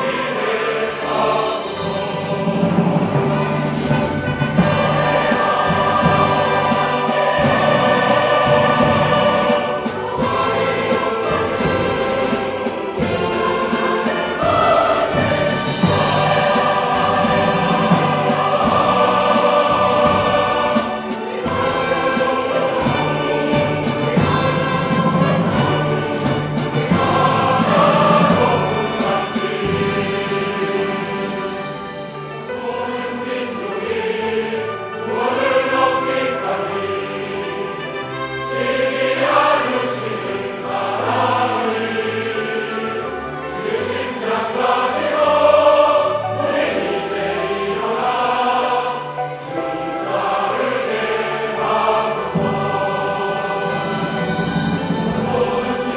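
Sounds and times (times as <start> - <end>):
church choir singing: 0.0 - 55.9
instrumental accompaniment: 0.0 - 55.9.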